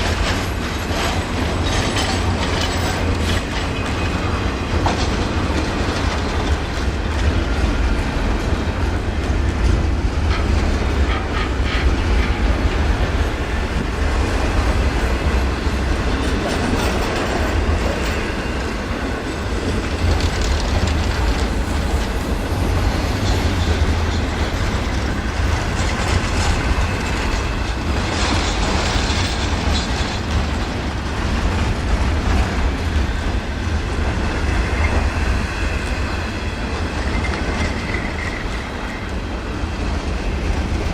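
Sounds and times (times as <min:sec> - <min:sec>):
clickety-clack of rail joints: 0:00.0 - 0:40.9
steel wheels rumbling on rails: 0:00.0 - 0:40.9.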